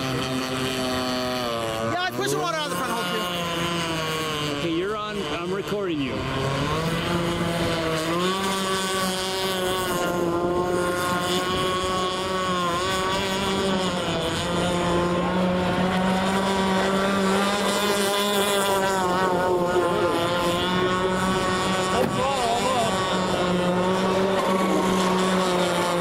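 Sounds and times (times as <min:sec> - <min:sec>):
model boat motor running: 0:00.0 - 0:26.0.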